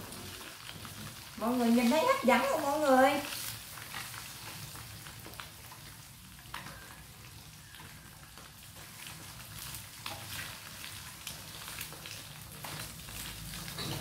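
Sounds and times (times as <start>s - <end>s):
eggs sizzling in hot oil: 0.0s - 14.0s.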